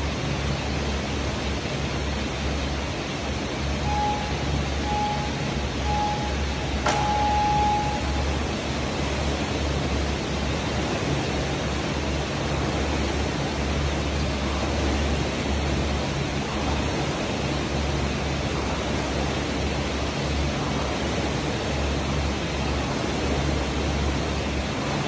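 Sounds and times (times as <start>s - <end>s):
rowing machine fan whooshing: 0.0s - 25.0s.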